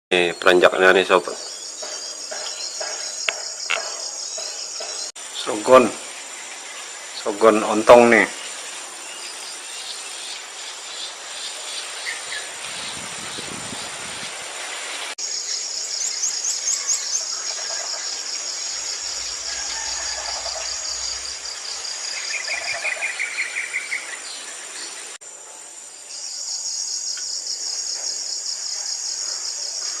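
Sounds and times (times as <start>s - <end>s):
birds chirping and trilling: 0.1s - 14.4s, 15.2s - 25.2s
high-pitched insect chorus: 0.8s - 30.0s.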